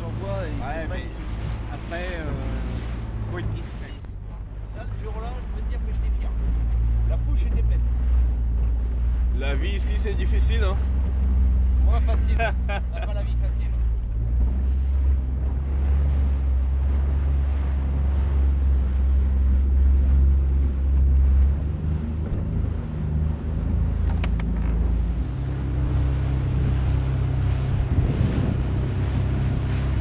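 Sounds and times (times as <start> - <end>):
wind buffeting microphone: 0.0 - 12.8, 13.6 - 30.0
motorboat engine drone: 0.0 - 30.0
water rushing past hull: 0.0 - 30.0.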